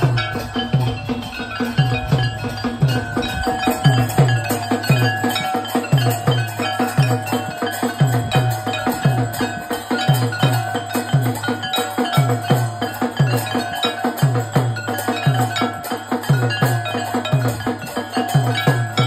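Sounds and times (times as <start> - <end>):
bells ringing: 0.0 - 19.0
drum beating: 0.0 - 19.0.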